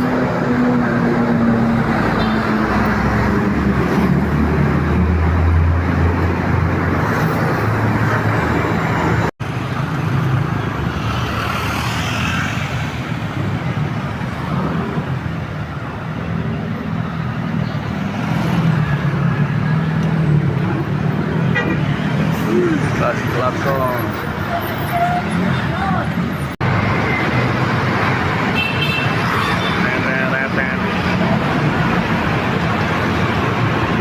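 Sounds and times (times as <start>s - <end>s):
passing traffic: 0.0s - 34.0s.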